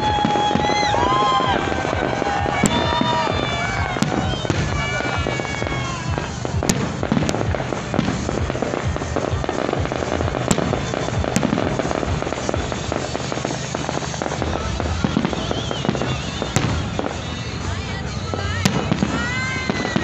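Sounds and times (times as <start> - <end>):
fireworks crackling and banging: 0.0 - 20.0.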